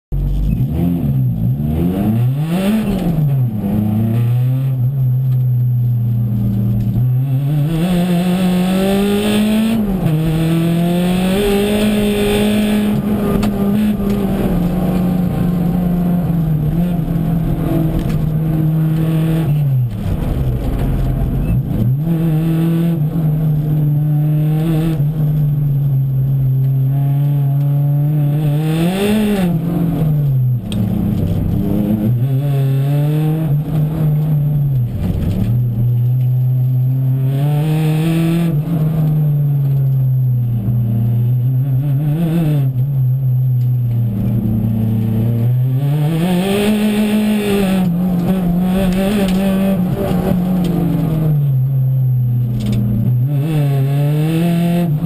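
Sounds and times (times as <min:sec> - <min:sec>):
car engine revving: 0:00.1 - 0:55.0.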